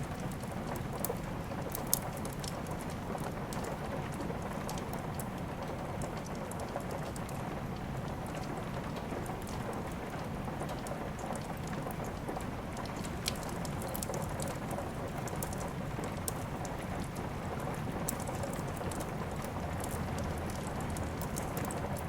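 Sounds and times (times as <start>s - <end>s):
steady rain: 0.0s - 22.0s
wood fire crackling: 0.1s - 22.0s.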